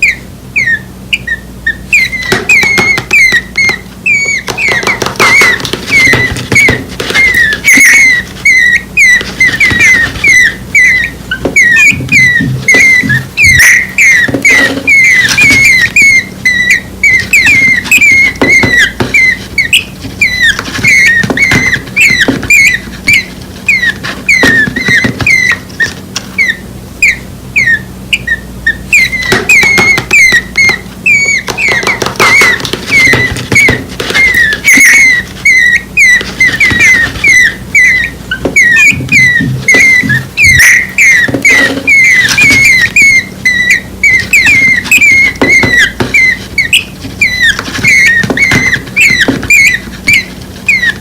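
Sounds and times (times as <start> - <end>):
nestling birds chirping: 0.0 - 51.0.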